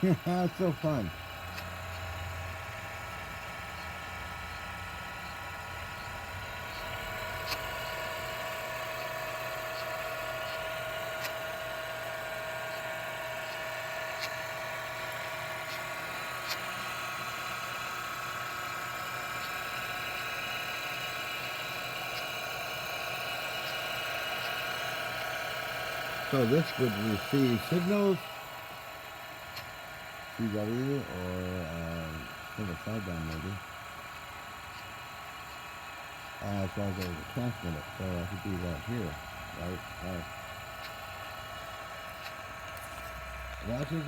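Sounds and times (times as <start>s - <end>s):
teletype machine humming: 0.0s - 44.0s.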